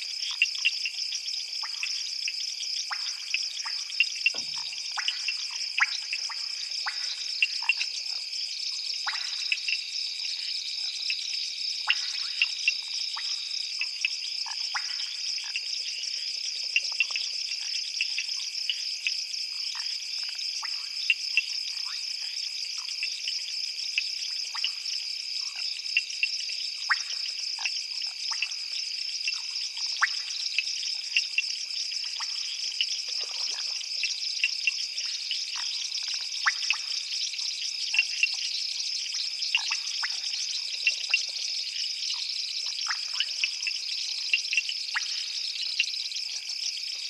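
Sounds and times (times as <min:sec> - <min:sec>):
high-pitched insect chorus: 0:00.0 - 0:47.0
short sharp frog calls: 0:02.8 - 0:08.0, 0:09.0 - 0:10.4, 0:11.8 - 0:23.1, 0:26.8 - 0:47.0.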